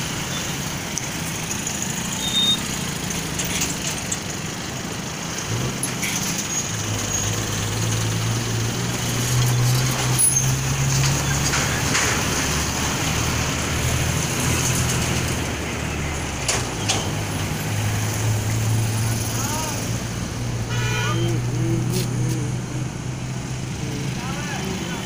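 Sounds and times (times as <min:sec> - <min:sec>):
road traffic engines and tyres: 0:00.0 - 0:25.0
truck engine drone: 0:00.0 - 0:25.0.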